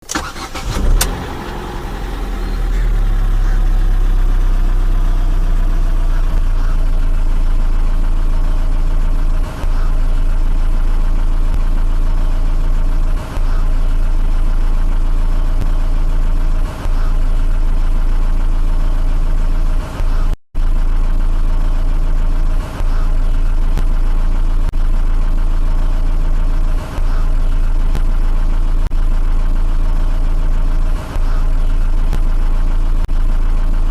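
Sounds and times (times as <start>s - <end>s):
car engine starting and idling: 0.0s - 33.9s.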